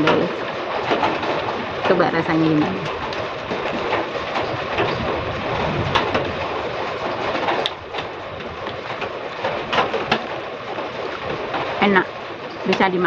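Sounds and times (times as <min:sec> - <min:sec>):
heavy rain on a metal roof: 0:00.0 - 0:13.0.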